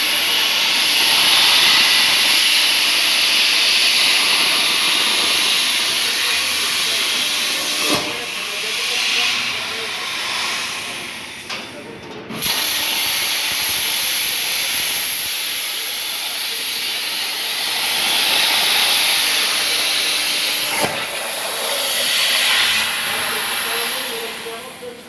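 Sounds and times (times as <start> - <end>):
plasma cutter hissing: 0.0 - 25.0.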